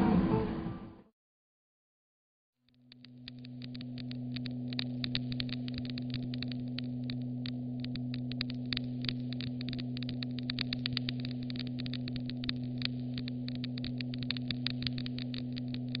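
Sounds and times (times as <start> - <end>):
fire crackling and popping: 2.8 - 16.0
steady low hum: 2.8 - 16.0.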